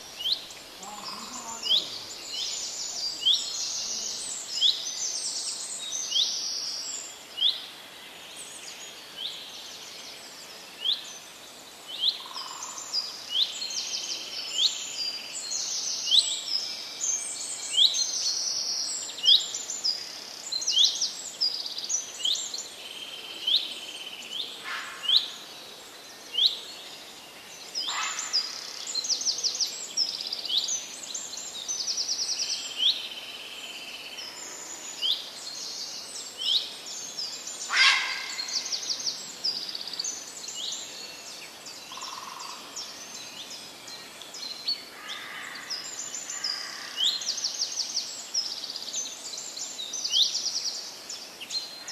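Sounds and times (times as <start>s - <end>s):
small birds chirping and trilling: 0.0s - 51.9s.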